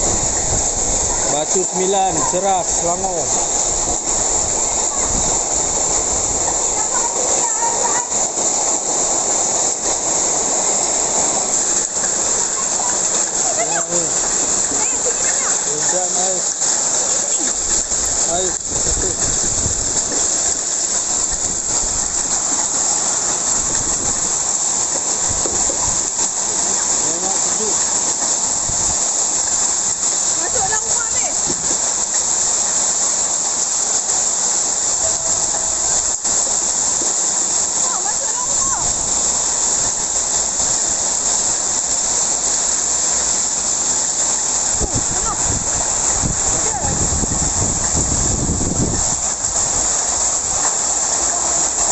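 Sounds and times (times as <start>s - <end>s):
heavy rain and hail falling: 0.0s - 51.9s.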